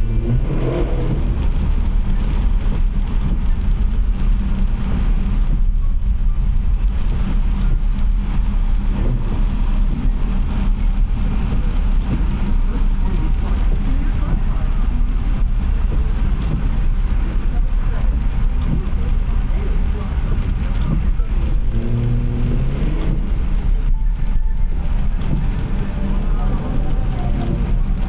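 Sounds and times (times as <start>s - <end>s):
car driving on wet road: 0.0s - 28.0s.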